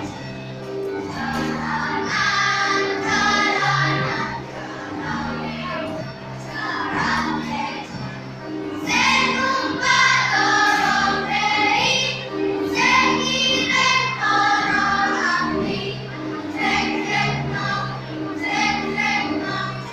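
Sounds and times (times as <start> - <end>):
choir singing: 1.0 - 8.2, 8.8 - 19.9.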